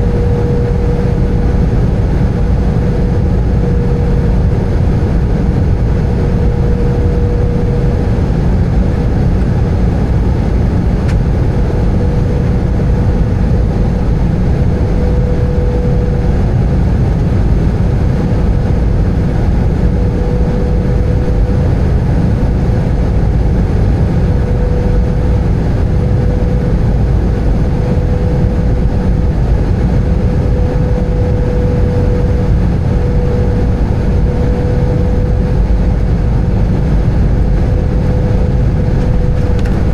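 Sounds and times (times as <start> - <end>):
airplane cabin engine rumble: 0.0 - 39.9
faint high hum: 0.0 - 39.9.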